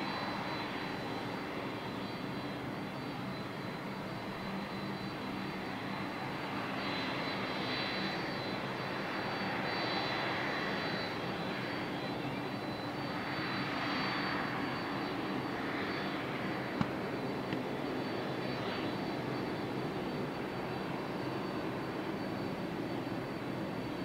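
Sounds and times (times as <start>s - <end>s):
distant jet engines whining: 0.0s - 24.0s.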